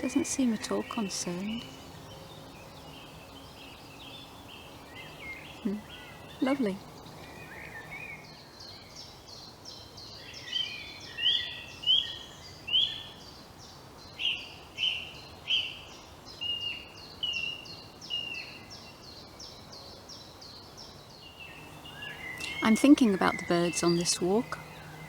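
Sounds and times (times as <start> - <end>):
lower repeated bird notes: 0.0 - 25.0.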